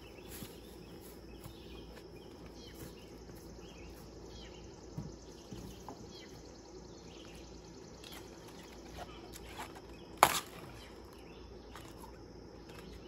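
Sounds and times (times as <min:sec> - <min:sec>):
birds chirping: 0:00.0 - 0:13.0
insects trilling: 0:00.0 - 0:13.0.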